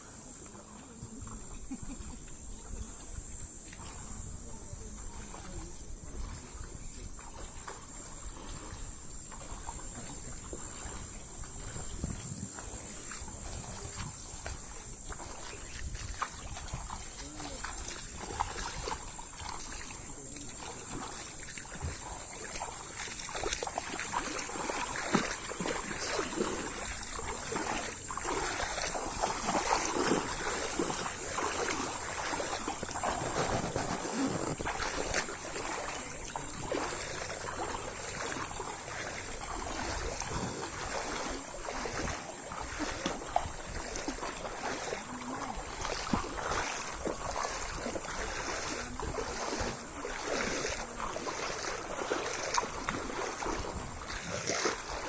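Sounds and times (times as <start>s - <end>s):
water splashing and lapping: 0.0s - 55.0s.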